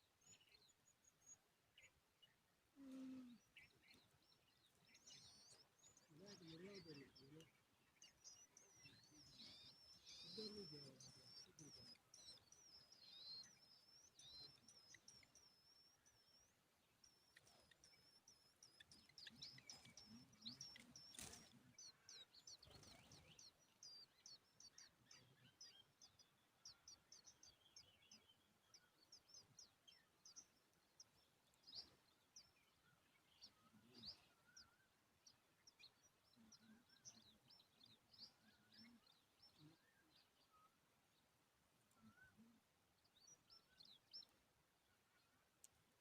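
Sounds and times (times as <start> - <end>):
bird chirping faintly: 0.0 - 46.0.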